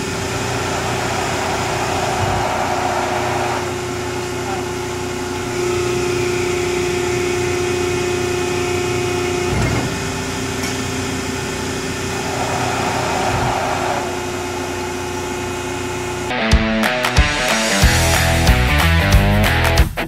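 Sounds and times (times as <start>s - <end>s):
hydraulic pump whine: 0.0s - 16.4s.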